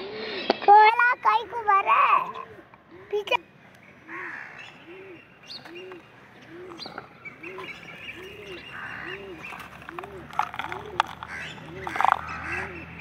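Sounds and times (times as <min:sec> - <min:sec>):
birds chirping: 0:00.0 - 0:13.0
bird hooting: 0:02.2 - 0:13.0.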